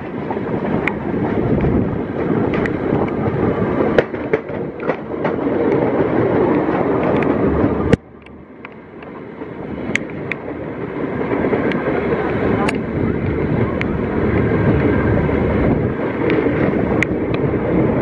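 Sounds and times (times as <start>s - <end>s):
trains passing rumble: 0.0s - 18.0s
wheels clicking over rail joints: 0.0s - 18.0s.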